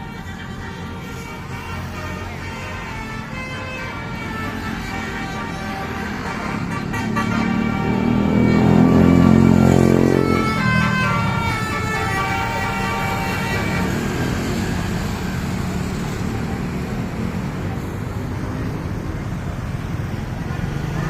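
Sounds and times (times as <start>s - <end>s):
musical bus horn: 0.0s - 17.9s
road traffic noise: 0.0s - 21.0s.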